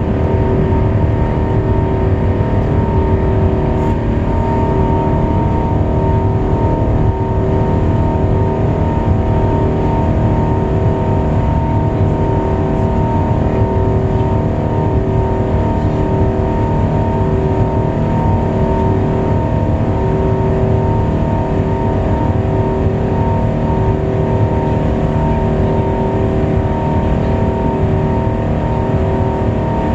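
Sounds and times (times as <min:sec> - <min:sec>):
jet engines roaring at takeoff: 0:00.0 - 0:29.9.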